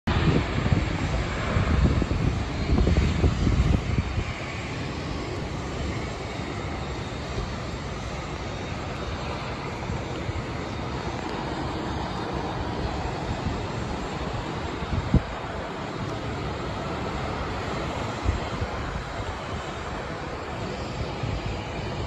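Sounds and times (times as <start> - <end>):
distant jet engine roar: 0.1 - 22.0.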